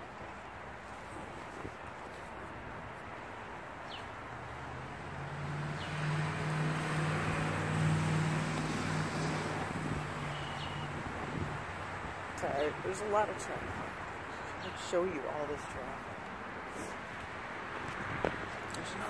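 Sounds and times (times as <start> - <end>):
vehicle passing: 3.3 - 19.0.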